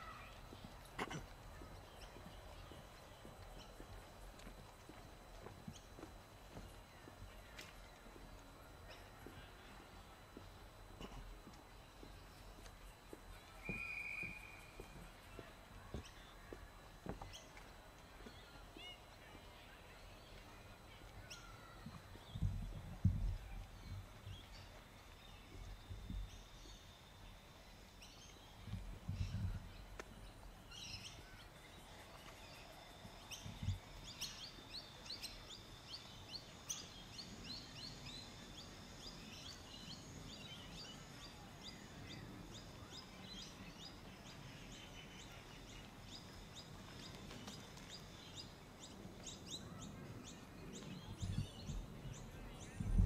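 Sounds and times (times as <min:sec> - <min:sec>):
faint background noise: 0:00.0 - 0:53.0
small birds chirping: 0:00.0 - 0:53.0.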